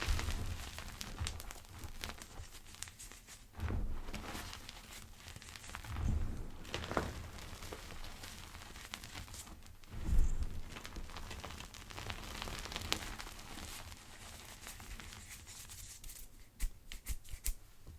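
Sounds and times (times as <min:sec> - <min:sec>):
chalk crumbling crackle: 0:00.0 - 0:17.6.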